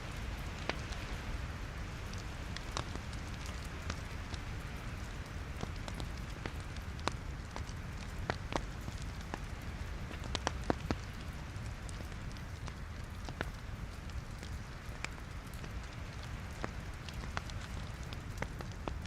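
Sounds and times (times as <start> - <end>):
log fire crackling: 0.0 - 19.0.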